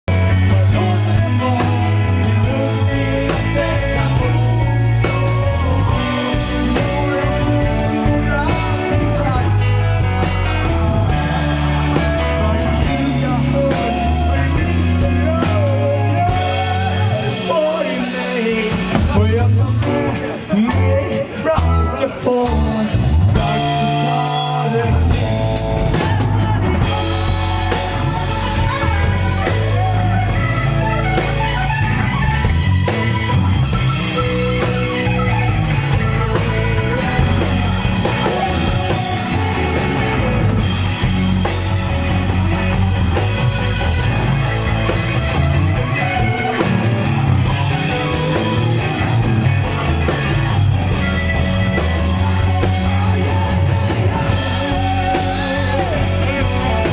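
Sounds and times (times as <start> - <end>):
rock band playing live: 0.0 - 56.9.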